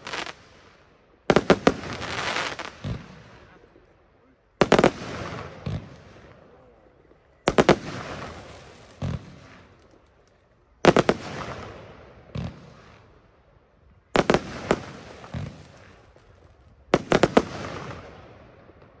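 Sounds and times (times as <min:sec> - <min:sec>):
firework volleys of sharp bangs: 0:00.0 - 0:03.8, 0:04.6 - 0:13.3, 0:14.2 - 0:19.0.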